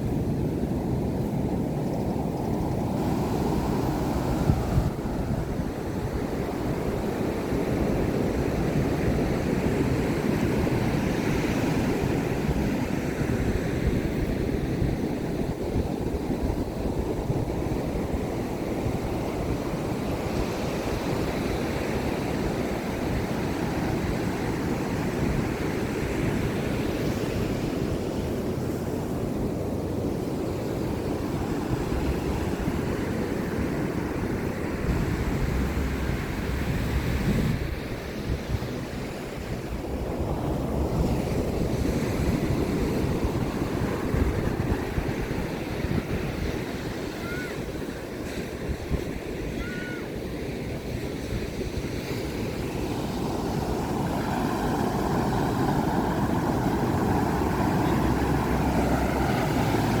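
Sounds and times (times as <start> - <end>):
ocean surf breaking: 0.0 - 60.0
wind buffeting microphone: 0.0 - 60.0.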